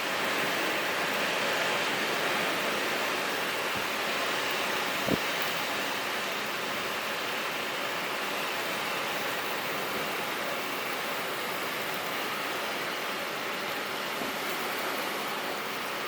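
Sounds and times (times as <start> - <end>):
heavy rain: 0.0 - 16.0
wind: 0.0 - 16.0.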